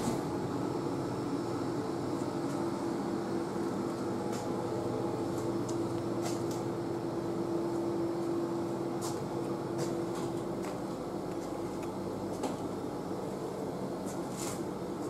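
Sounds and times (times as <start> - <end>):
vending machines humming: 0.0 - 15.0.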